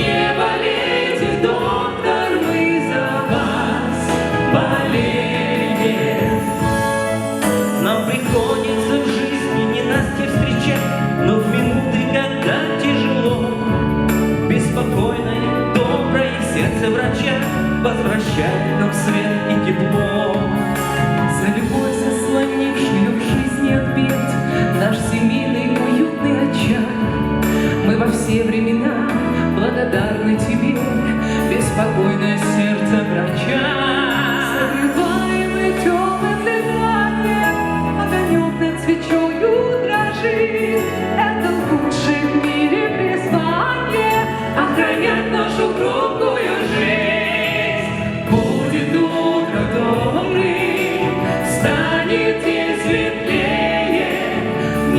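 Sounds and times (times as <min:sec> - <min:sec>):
instrumental backing music: 0:00.0 - 0:54.9
vocal ensemble singing: 0:00.0 - 0:54.9.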